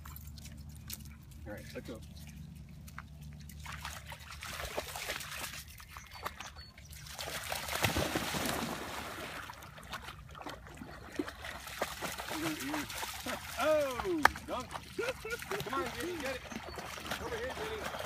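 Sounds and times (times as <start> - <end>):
dogs splashing through water: 0.0 - 18.0.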